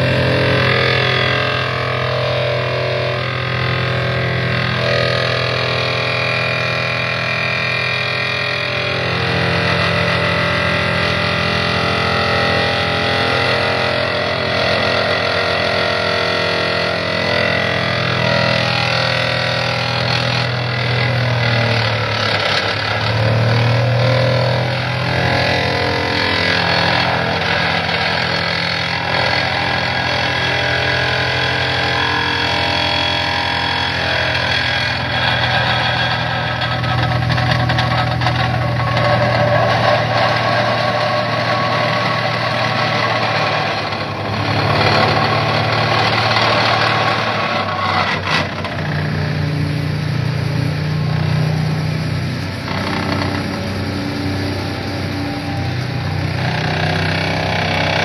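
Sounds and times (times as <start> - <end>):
excavator engine running: 0.0 - 58.0
vibratory pile driver drone: 0.0 - 58.0.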